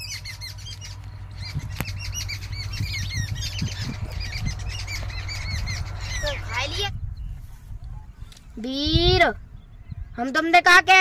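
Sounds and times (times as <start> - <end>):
steady low hum: 0.0 - 10.2
small birds chirping: 0.0 - 11.0.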